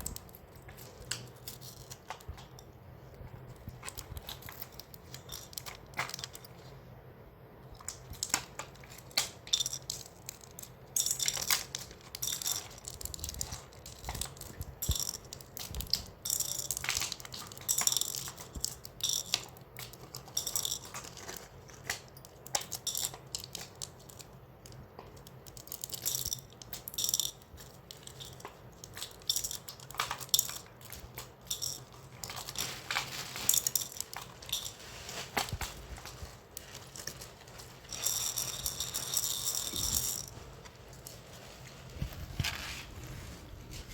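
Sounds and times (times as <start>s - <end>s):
hard candies rattling: 0.0s - 2.7s, 3.5s - 6.7s, 7.6s - 41.7s
plastic wrappers crinkling: 7.7s - 43.9s.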